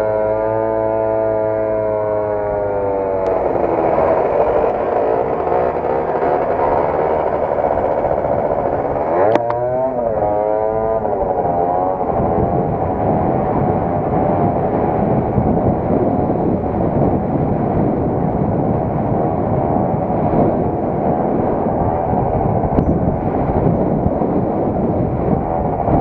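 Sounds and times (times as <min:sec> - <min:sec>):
scooter engine running: 0:00.0 - 0:26.0
wind rush on microphone: 0:01.3 - 0:26.0.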